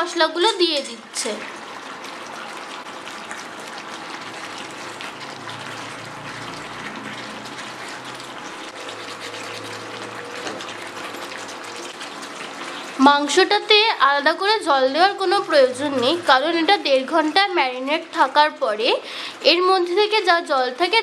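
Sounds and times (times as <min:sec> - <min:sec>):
food sizzling and bubbling in a pan: 0:00.0 - 0:21.0.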